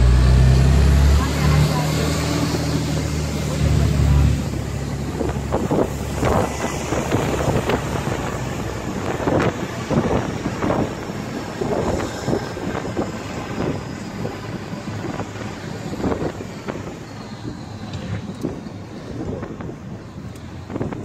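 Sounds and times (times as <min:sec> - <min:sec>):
vehicle road and engine noise: 0:00.0 - 0:21.0
wind buffeting microphone: 0:00.0 - 0:21.0.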